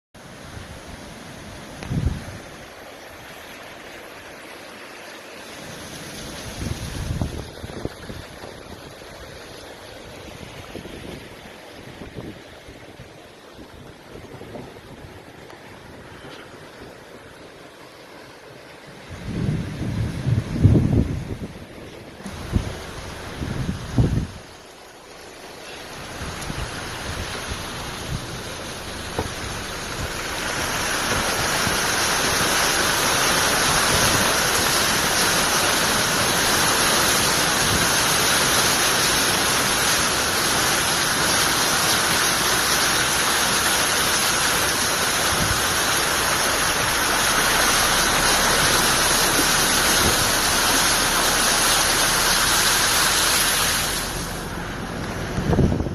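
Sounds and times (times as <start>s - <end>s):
rushing water: 0.2s - 55.9s.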